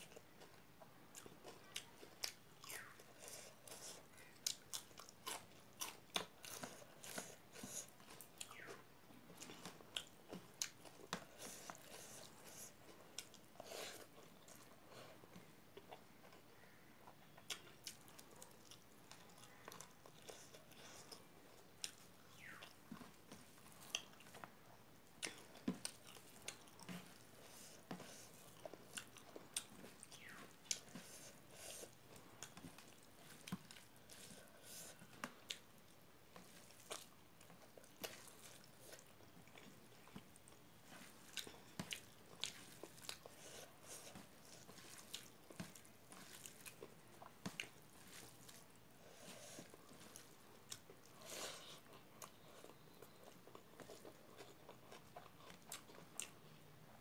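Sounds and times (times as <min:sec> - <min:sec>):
person chewing: 0:00.0 - 0:56.6.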